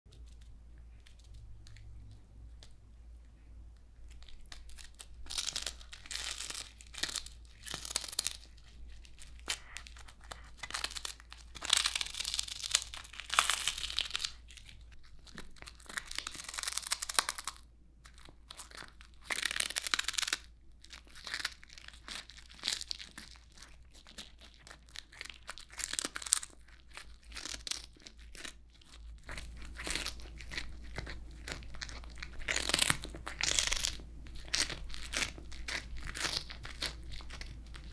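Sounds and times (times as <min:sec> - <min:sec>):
cat crunching dried fish: 0:04.0 - 0:37.9.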